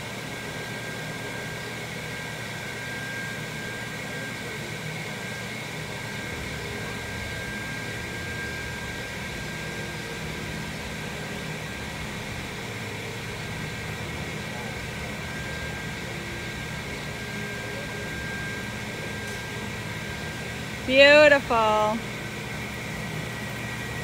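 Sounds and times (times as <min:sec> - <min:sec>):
ventilation fans humming: 0:00.0 - 0:24.0.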